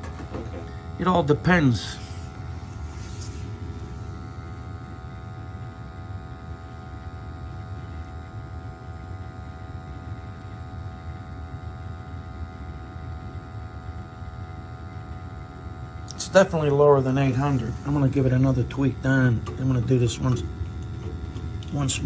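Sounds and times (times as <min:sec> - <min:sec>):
boiler burner low rumble: 0:00.0 - 0:22.0
multi-tone hum: 0:00.0 - 0:22.0.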